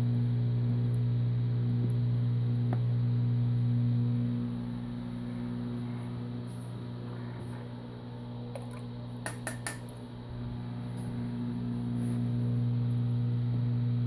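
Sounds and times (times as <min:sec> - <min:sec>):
machine electric hum: 0:00.0 - 0:14.0.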